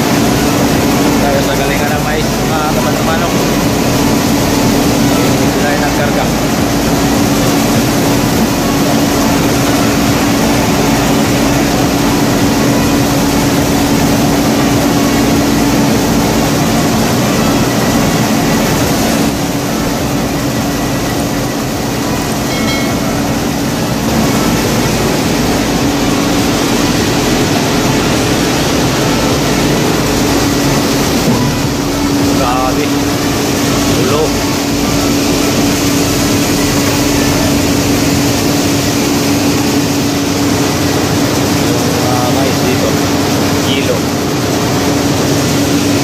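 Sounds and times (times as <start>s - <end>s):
grain mill machinery drone: 0.0s - 46.0s.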